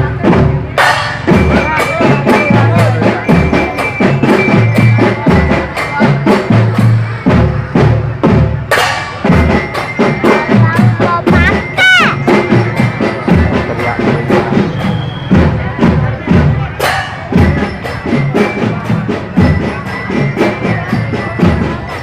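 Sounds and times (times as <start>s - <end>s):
loud music with drum beat: 0.0s - 22.0s.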